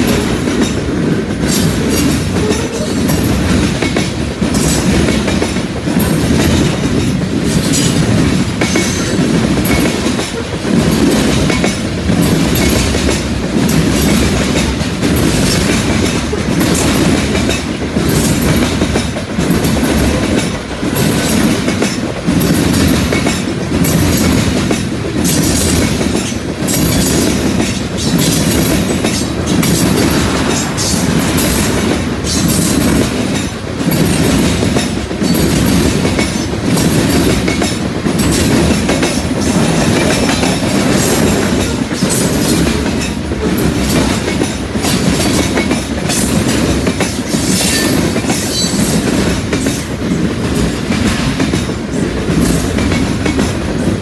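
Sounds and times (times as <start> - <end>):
freight train rumble: 0.0 - 54.0
wheels clacking over rail joints: 0.0 - 54.0.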